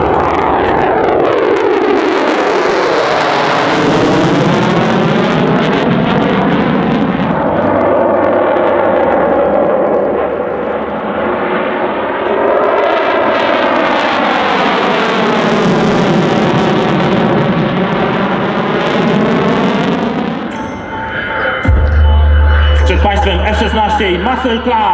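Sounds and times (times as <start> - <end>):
loud jet noise: 0.0 - 24.9.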